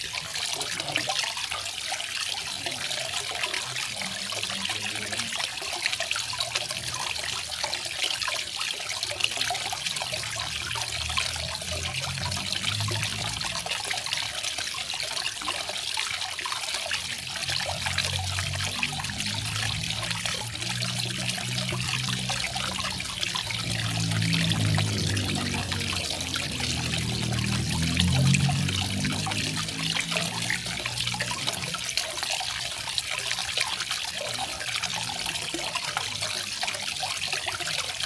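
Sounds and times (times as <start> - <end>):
waterfall splashing and trickling: 0.0 - 38.0.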